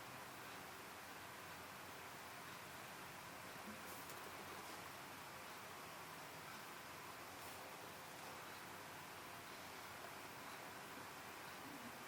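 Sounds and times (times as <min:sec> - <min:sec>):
faint room tone hiss: 0:00.0 - 0:12.0.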